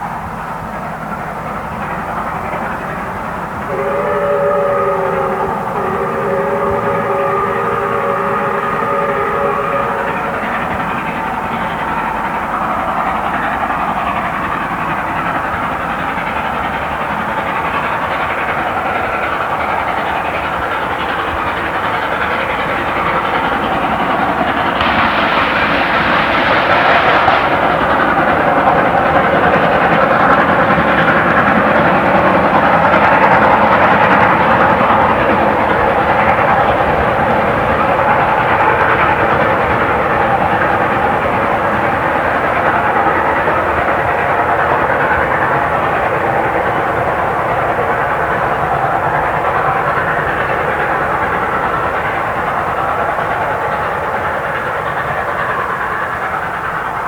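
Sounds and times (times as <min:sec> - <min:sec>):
steam locomotive exhaust: 0:00.0 - 0:57.0
wheels on rail: 0:00.0 - 0:57.0.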